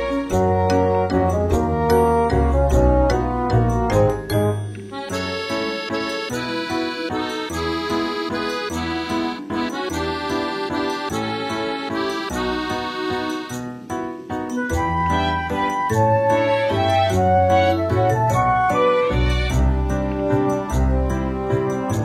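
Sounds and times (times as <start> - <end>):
held chords over bass line: 0.0 - 22.0.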